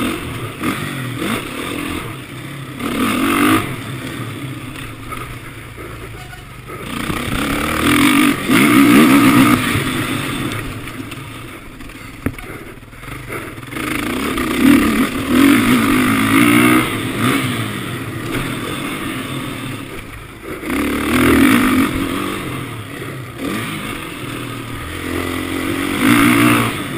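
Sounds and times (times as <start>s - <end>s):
motocross bike engine revving: 0.0s - 26.9s.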